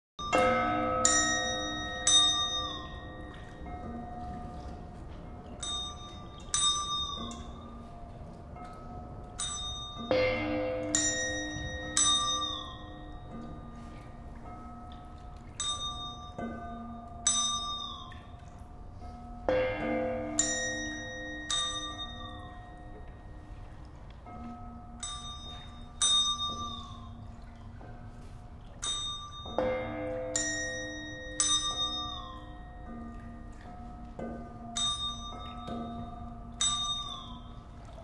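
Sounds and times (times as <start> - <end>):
bell-like percussion notes: 0.2 - 38.0.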